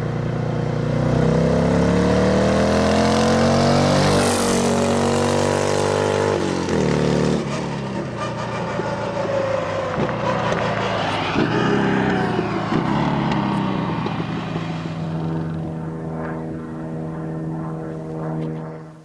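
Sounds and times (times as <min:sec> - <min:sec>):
car engine accelerating: 0:00.0 - 0:17.6.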